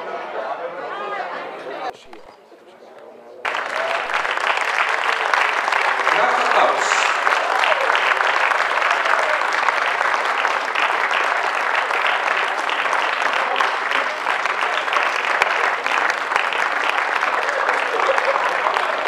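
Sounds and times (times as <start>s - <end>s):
audience applauding: 3.4s - 19.0s.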